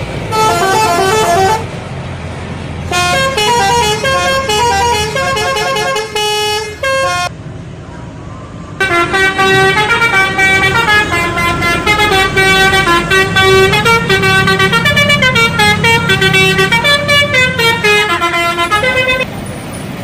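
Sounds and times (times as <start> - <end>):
bus engine running: 0.0 - 20.0
bus horn playing a tune: 0.3 - 1.8, 2.9 - 7.3, 8.8 - 19.3.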